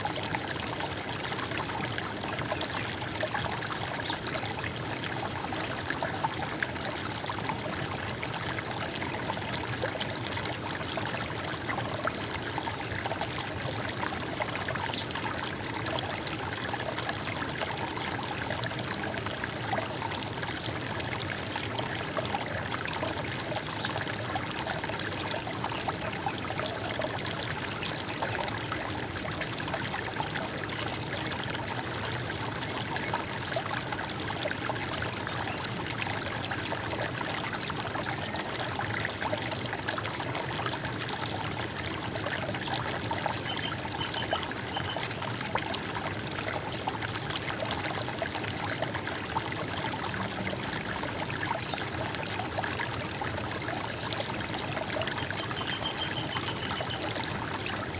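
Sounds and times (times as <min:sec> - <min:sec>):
stream gurgling: 0:00.0 - 0:57.9.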